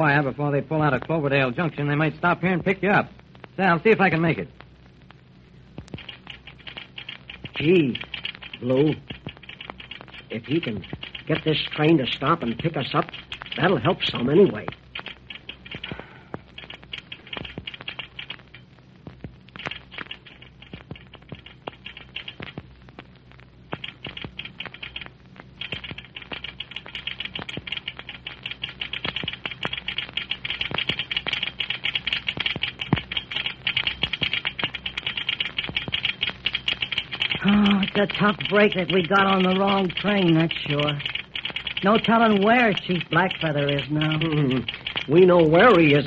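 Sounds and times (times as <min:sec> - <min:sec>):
telegraph clicking: 0:00.0 - 0:46.0.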